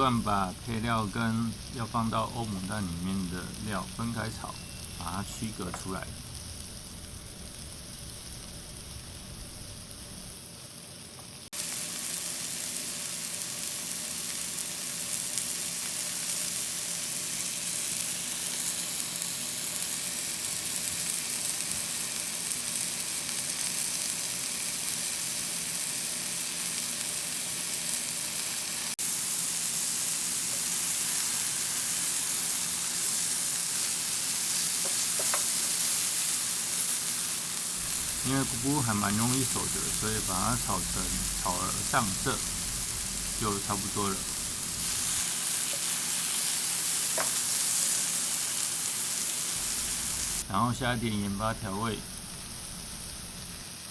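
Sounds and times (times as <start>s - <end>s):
mushrooms sizzling in a pan: 0.0s - 53.9s.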